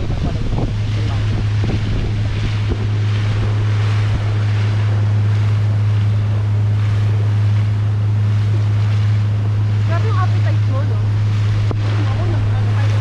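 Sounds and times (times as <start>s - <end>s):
boat motor humming: 0.0s - 13.0s
water rushing: 0.0s - 13.0s
wind on microphone: 0.0s - 13.0s.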